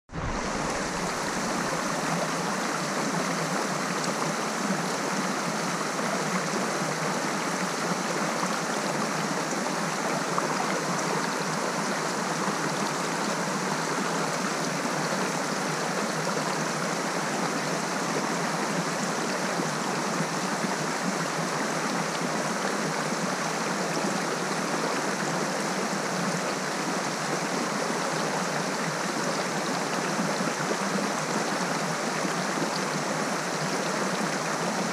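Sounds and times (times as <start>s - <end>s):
waterfall rushing into pool: 0.1s - 34.9s.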